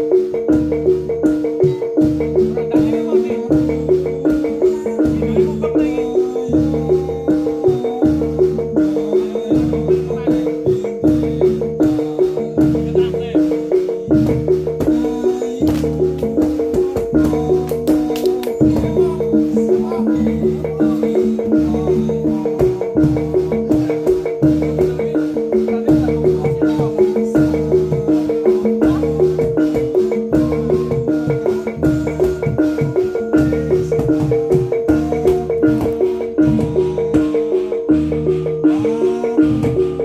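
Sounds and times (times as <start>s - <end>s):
gamelan ensemble playing: 0.0s - 40.0s
sharp clicking beats: 0.0s - 40.0s.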